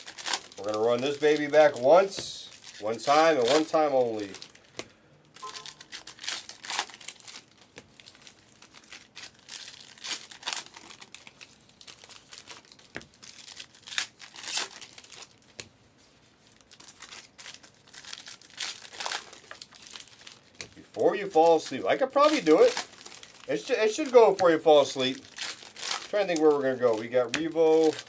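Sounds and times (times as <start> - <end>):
plastic wrappers crinkling and tearing: 0.0 - 28.0.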